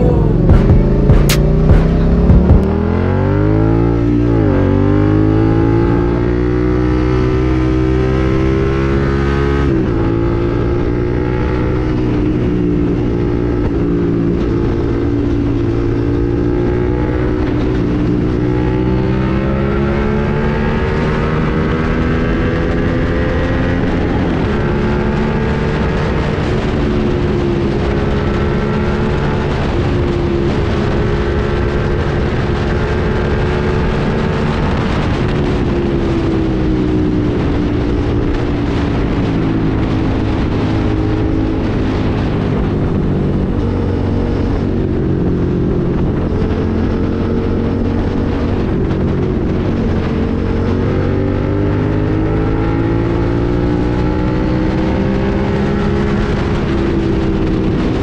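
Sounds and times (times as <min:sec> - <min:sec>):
motorcycle engine accelerating hard: 0:00.0 - 0:58.0.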